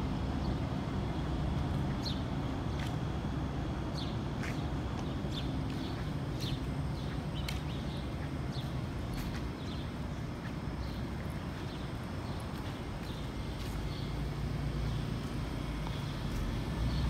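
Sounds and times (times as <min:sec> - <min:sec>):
low city hum: 0:00.0 - 0:17.0.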